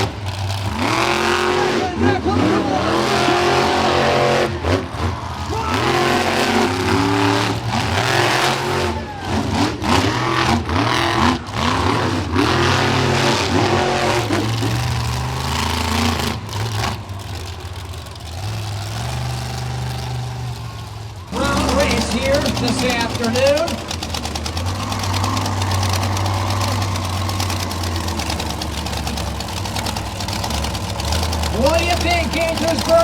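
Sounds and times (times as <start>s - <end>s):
truck engines revving: 0.0s - 33.0s.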